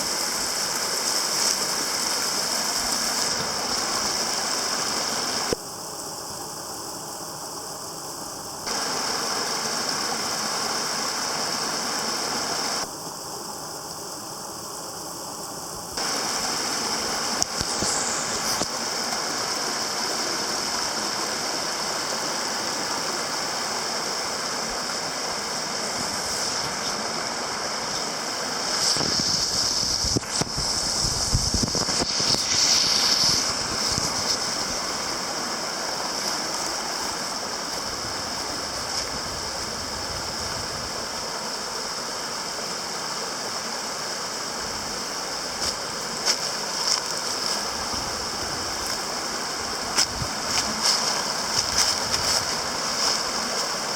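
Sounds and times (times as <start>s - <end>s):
running water rushing: 0.0s - 5.6s, 8.6s - 12.9s, 16.0s - 43.4s, 44.0s - 53.9s.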